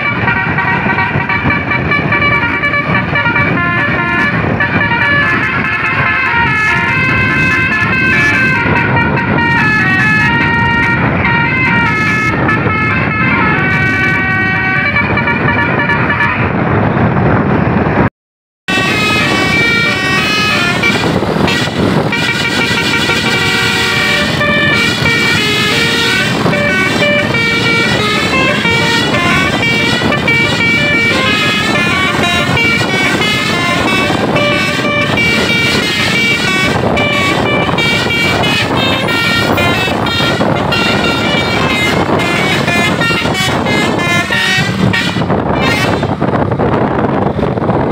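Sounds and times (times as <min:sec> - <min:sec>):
musical air horns playing melodies: 0:00.0 - 0:16.6, 0:18.7 - 0:46.5
low rumble of bus: 0:00.0 - 0:18.1, 0:18.7 - 0:47.9.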